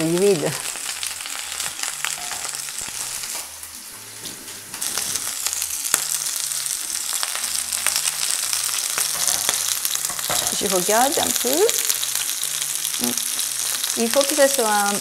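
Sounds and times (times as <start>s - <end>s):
shrimp sizzling in hot oil: 0.0s - 15.0s.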